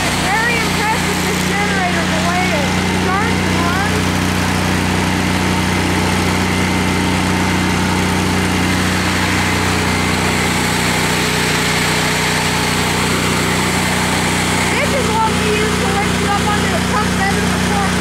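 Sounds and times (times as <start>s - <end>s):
gasoline engine running steadily: 0.0s - 18.0s.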